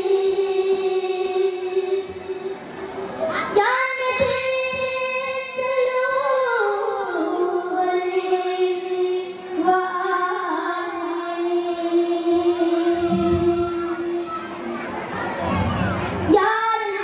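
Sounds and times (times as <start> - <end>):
children singing into microphones: 0.0 - 17.0.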